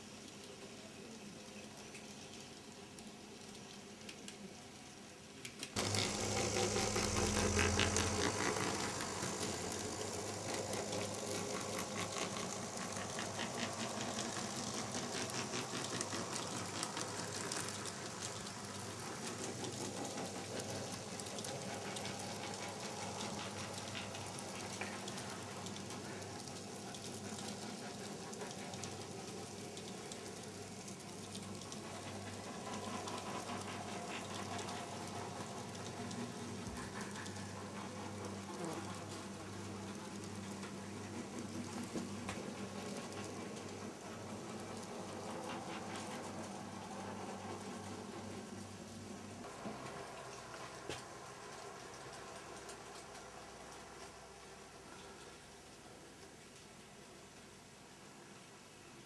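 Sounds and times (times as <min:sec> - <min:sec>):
model train wheels clicking on rails: 0:00.0 - 0:58.6
whirring hum: 0:05.5 - 0:59.0.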